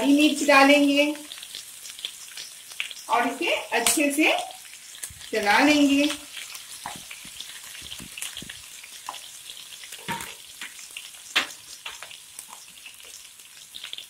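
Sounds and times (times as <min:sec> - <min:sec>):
vegetables sizzling in hot oil: 0:00.0 - 0:14.0
oil crackling and popping: 0:00.1 - 0:14.0.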